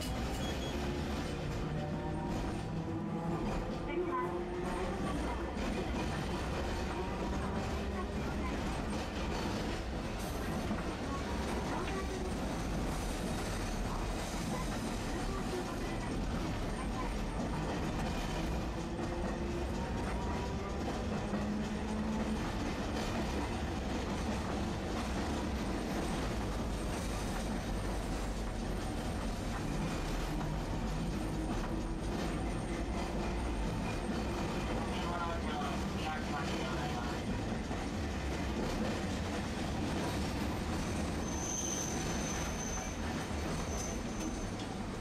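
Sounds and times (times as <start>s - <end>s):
wheels rumbling on rails: 0.0s - 45.0s.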